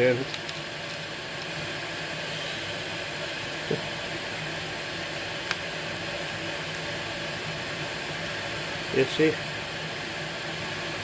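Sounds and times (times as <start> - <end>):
kettle hissing: 0.0 - 11.0.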